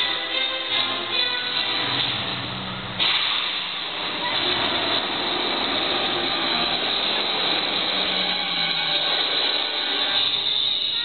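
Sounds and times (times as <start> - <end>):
loud rushing noise over speakers: 0.0 - 11.0.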